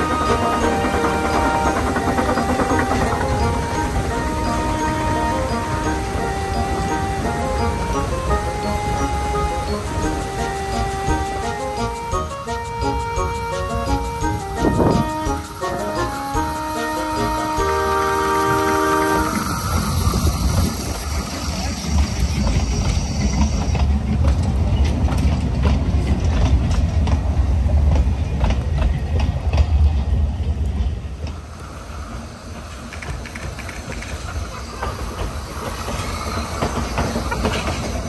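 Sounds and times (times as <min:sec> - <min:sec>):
train rumble: 0:00.0 - 0:38.0
train wheels clicking over rail joints: 0:00.0 - 0:38.0.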